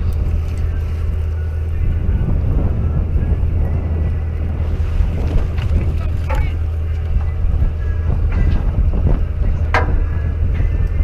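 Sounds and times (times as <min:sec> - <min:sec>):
boat engine drone: 0:00.0 - 0:11.0
wind buffeting microphone: 0:00.0 - 0:11.0.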